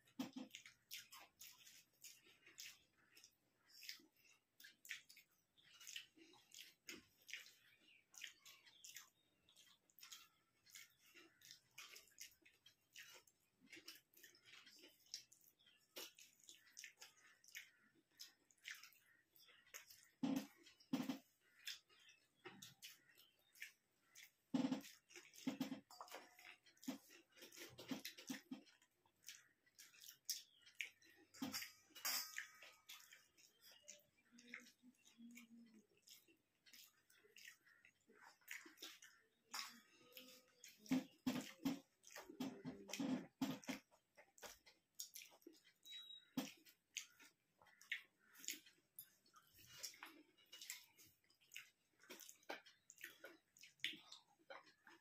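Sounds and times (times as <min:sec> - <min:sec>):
chewing: 0:00.0 - 0:55.0
fingers mixing rice: 0:00.0 - 0:55.0.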